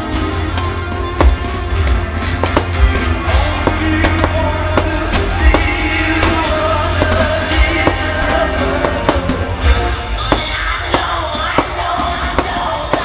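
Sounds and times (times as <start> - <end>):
fireworks bangs: 0.0 - 13.0
loud music with heavy bass: 0.0 - 13.0.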